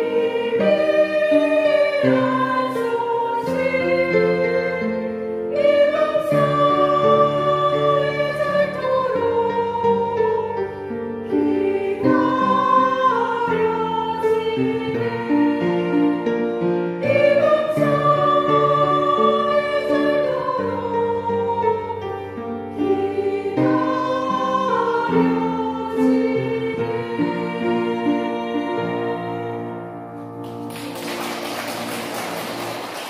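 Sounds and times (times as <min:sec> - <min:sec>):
women's choir singing a hymn: 0:00.0 - 0:33.0.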